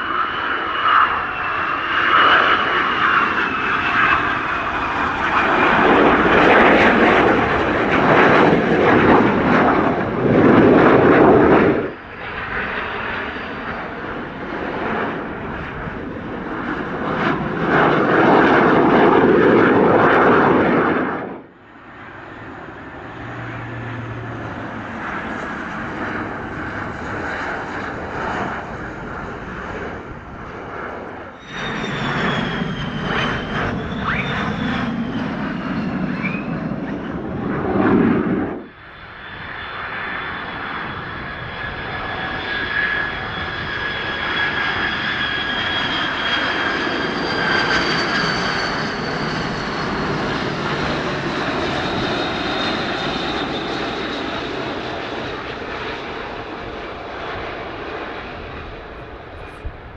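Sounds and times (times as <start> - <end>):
jet engines rumbling and whining: 0.0 - 59.9
turboprop plane passing overhead: 0.0 - 59.9.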